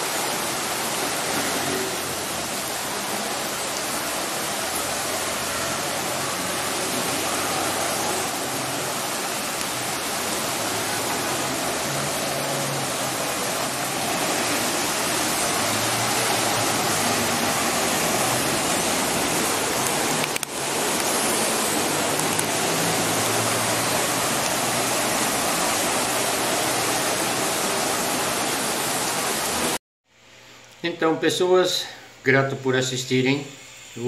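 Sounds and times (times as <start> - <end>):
floodwater rushing: 0.0 - 29.8
heavy rain: 0.0 - 29.8.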